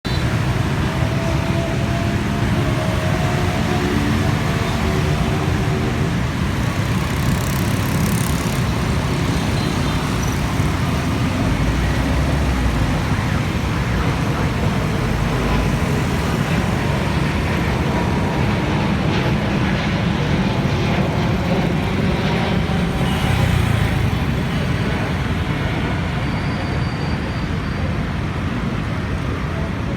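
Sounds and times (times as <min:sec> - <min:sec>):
jet engines at takeoff thrust: 0:00.1 - 0:29.9.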